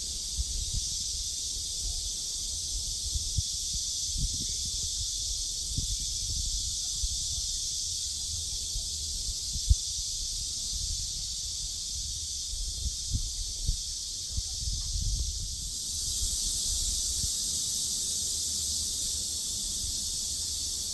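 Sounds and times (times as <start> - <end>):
cicadas buzzing: 0.0 - 20.9.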